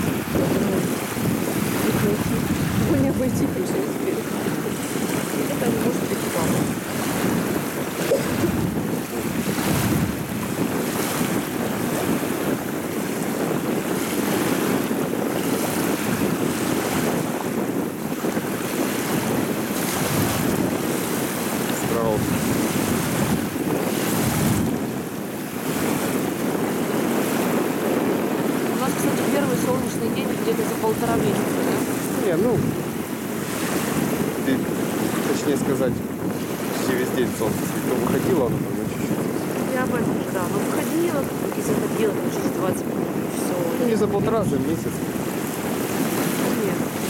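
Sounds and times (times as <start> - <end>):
river waves lapping: 0.0 - 47.0
wind buffeting microphone: 0.0 - 47.0.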